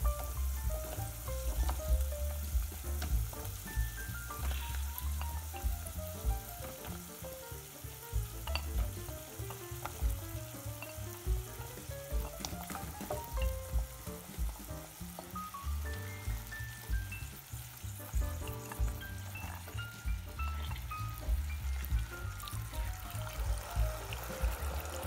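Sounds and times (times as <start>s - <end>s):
background music: 0.0s - 25.0s
onions sizzling in oil: 0.0s - 25.0s.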